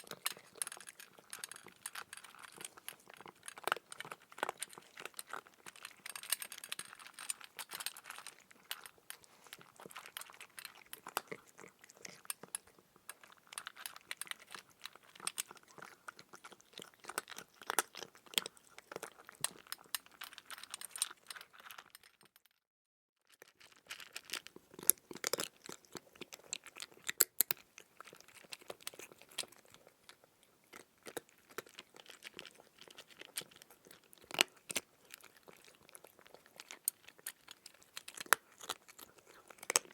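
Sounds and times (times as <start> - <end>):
crunchy chewing: 0.0 - 22.2, 23.3 - 39.9.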